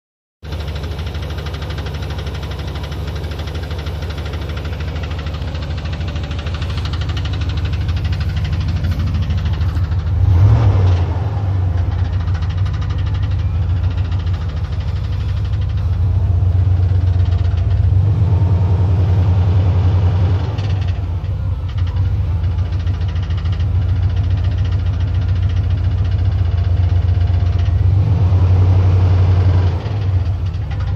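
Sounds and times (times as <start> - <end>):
pickup engine ticking and clunking: 0.4 - 30.9.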